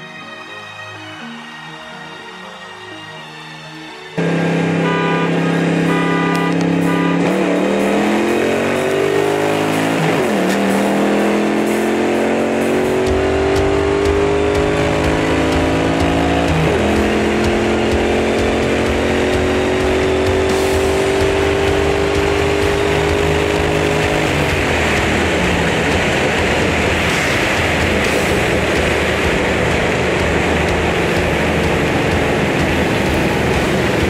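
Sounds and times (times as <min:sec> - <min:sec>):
car engine accelerating: 0:04.2 - 0:34.0.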